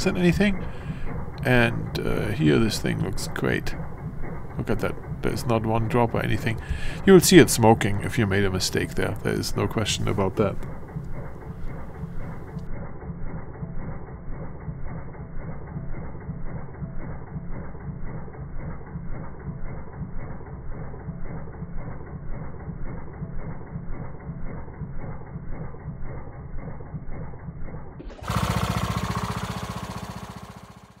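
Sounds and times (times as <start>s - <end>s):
mower engine running: 0.0s - 27.4s, 28.0s - 31.0s.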